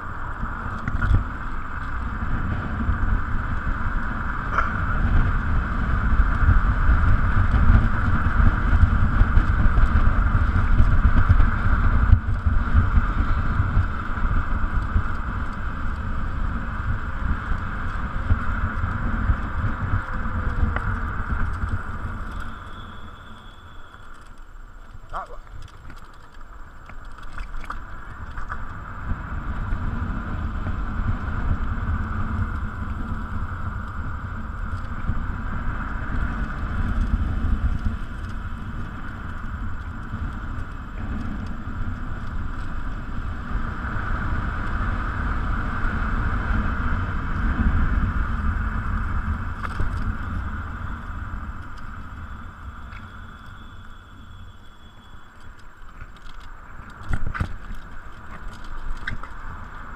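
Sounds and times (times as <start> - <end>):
electric scooter road noise: 0.0 - 59.9
wind rushing over microphone: 0.0 - 59.9.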